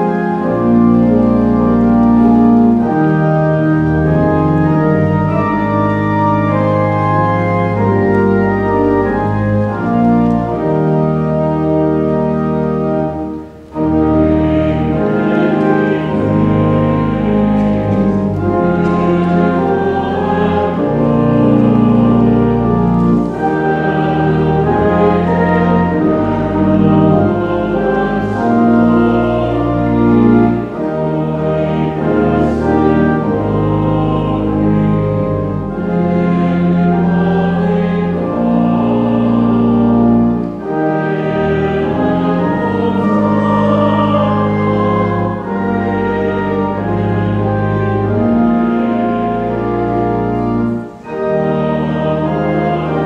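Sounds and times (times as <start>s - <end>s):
congregation singing a hymn: 0.0s - 53.0s
organ accompaniment: 0.0s - 53.0s.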